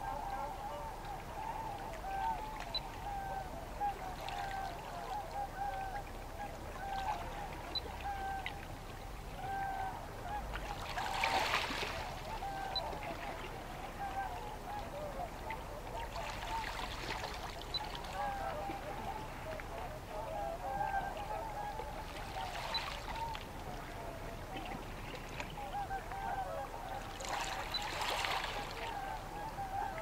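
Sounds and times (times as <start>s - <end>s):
waterfowl honking: 0.0s - 8.6s, 9.3s - 30.0s.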